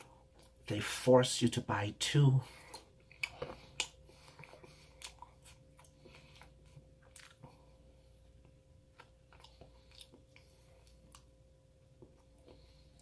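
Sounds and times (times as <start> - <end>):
low steady hum: 0.0 - 13.0
chewing flaky pastry: 2.4 - 13.0.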